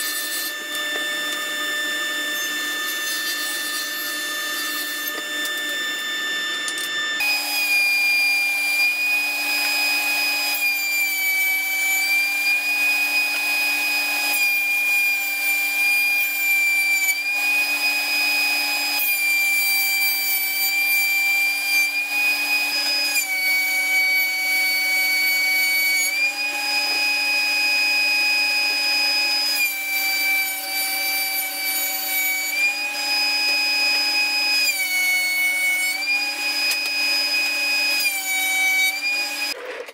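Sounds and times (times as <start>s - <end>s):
thickness planer whining: 0.0s - 39.9s.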